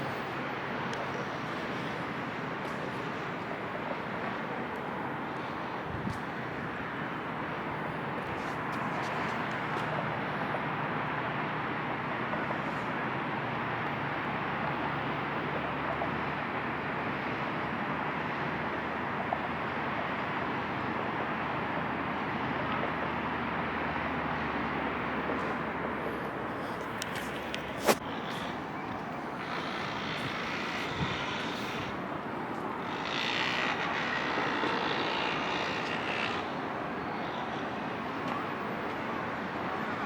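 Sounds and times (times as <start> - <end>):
steady rushing noise: 0.0 - 40.0.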